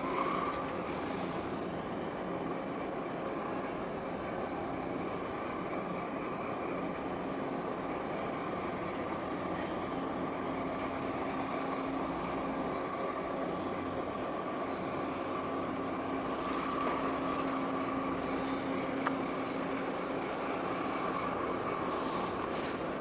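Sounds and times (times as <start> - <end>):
ship engines droning: 0.0 - 23.0.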